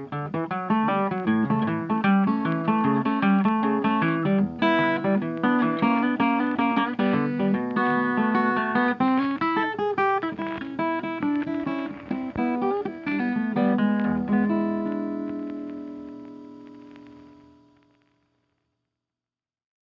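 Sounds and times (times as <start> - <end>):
plucked guitar notes: 0.0 - 17.7
ringing guitar chord: 0.6 - 16.6.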